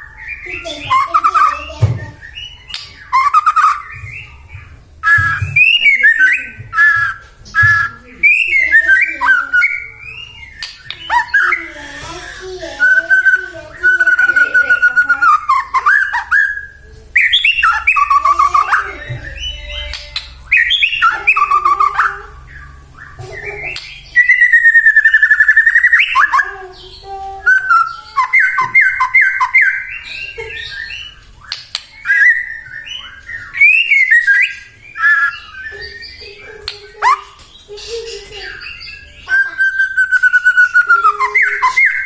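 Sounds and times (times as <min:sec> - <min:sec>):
songbird singing whistled phrases: 0:00.0 - 0:12.0, 0:12.6 - 0:42.0.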